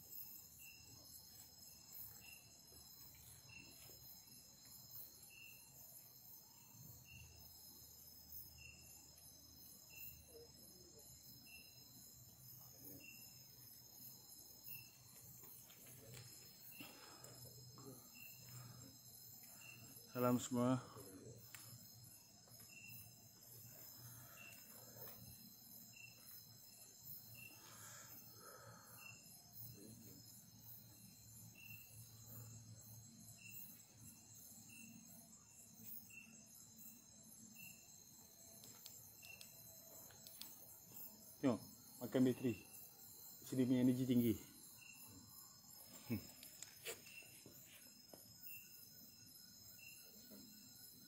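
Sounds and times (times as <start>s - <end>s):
crickets trilling: 0.0s - 51.0s
short insect chirp: 0.0s - 51.0s.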